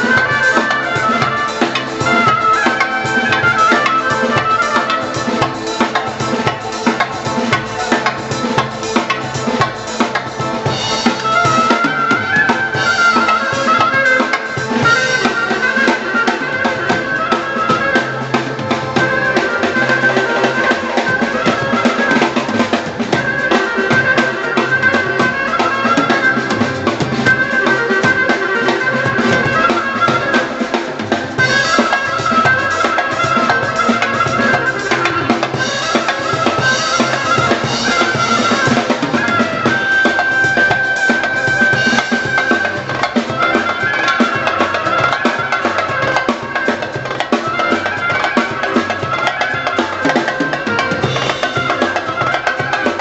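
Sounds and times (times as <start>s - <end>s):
drum kit groove: 0.0s - 53.0s
keyboard melody: 0.0s - 53.0s.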